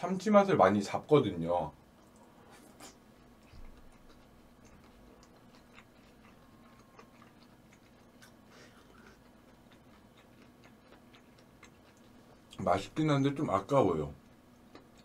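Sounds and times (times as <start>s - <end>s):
low steady hum: 0.0s - 15.0s
faint chewing and mouth clicks: 1.9s - 13.3s, 14.2s - 15.0s.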